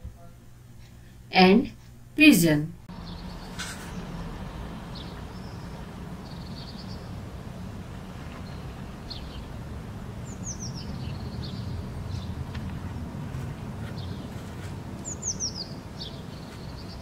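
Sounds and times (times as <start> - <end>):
low background rumble: 0.0 - 17.0
songbirds chirping: 2.9 - 17.0.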